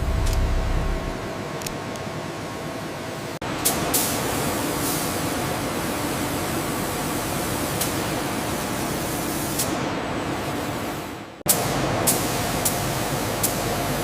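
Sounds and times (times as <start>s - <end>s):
hissing factory machine: 0.0s - 14.0s.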